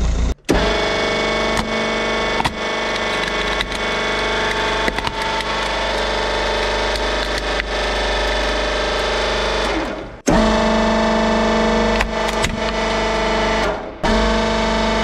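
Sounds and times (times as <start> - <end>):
hydraulic pump droning whine: 0.0 - 15.0.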